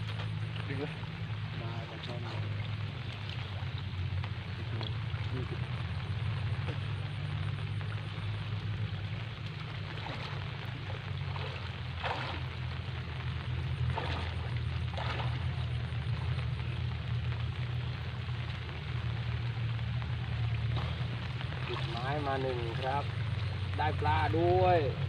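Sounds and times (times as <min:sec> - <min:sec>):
steady low rumble: 0:00.0 - 0:25.0
water splashing: 0:00.0 - 0:25.0.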